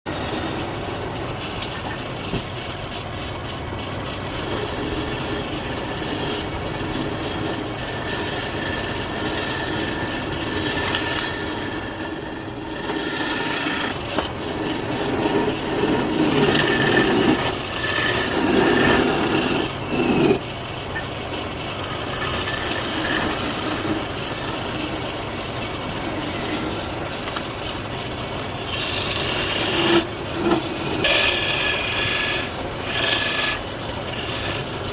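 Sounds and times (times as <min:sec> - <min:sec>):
wood lathe cutting wood: 0:02.6 - 0:34.9.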